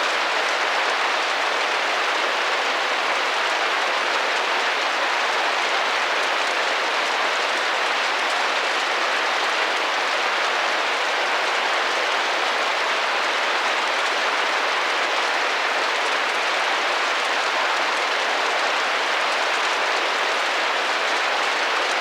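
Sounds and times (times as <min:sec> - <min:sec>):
rain drumming on a window: 0:00.0 - 0:22.0.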